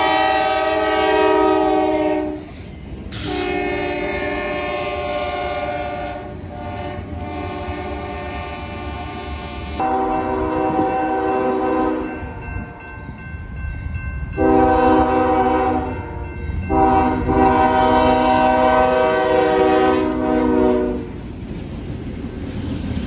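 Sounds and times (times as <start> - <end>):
train air horn blasts: 0.0 - 12.8, 14.4 - 21.2
diesel locomotives rumbling: 0.0 - 23.0.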